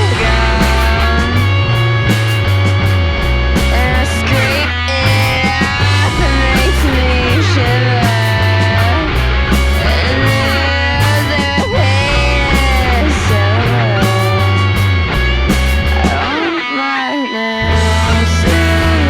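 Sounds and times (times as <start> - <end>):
drums and cymbal hits: 0.0 - 16.4, 17.7 - 19.0
bass line: 0.0 - 16.5, 17.6 - 19.0
electric guitar bending notes: 0.0 - 19.0.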